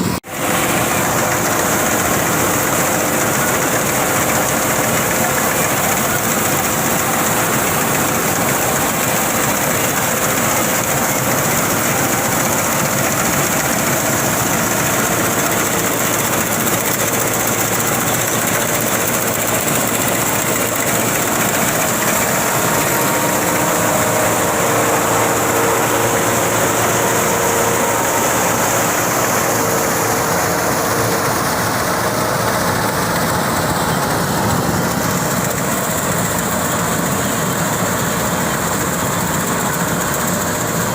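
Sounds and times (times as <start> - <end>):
tractor engine driving chopper: 0.0 - 40.9.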